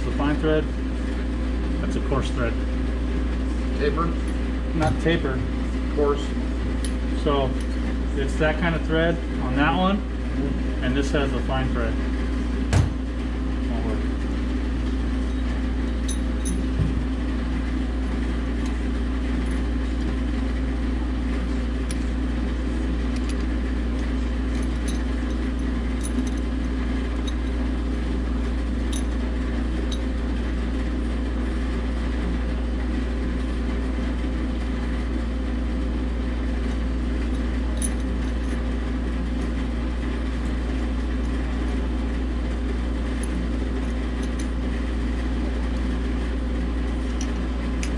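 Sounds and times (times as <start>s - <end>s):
machinery hum: 0.0s - 47.9s.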